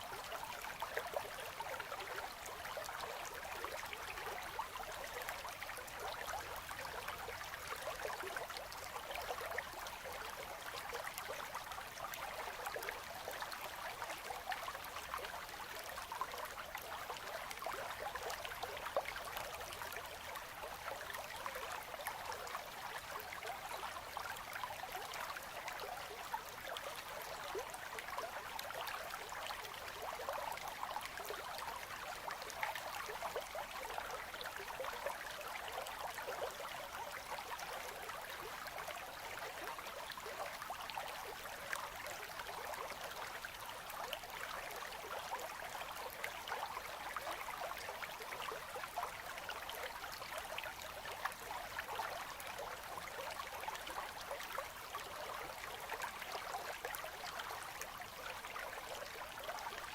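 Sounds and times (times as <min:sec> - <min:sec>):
river water babbling: 0:00.0 - 0:59.9.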